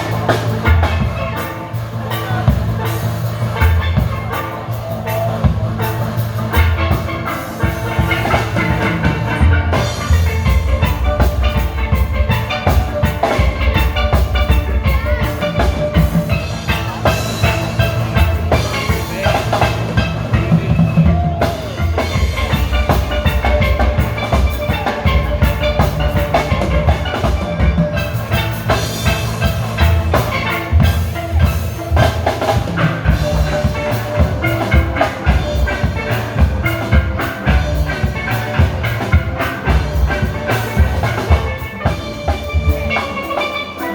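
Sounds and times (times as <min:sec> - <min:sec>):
drum kit steady beat: 0:00.0 - 0:43.9
steelpans playing melody: 0:00.0 - 0:43.9.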